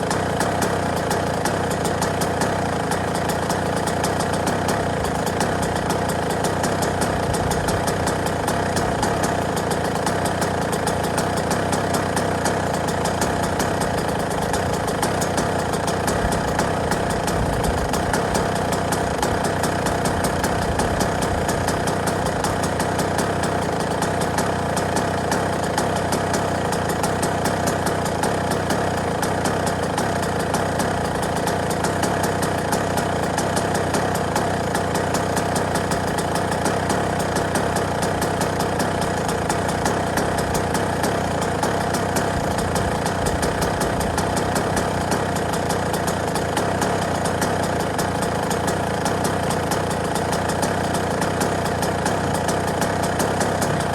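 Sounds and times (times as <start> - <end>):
two-stroke motorcycle engine idling: 0.0 - 53.9.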